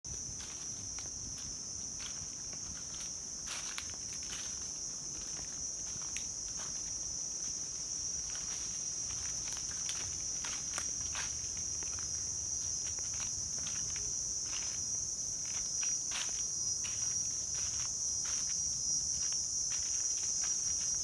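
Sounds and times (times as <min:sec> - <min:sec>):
footsteps on dry leaves: 0:00.1 - 0:21.0
high-pitched insect drone: 0:00.1 - 0:21.0.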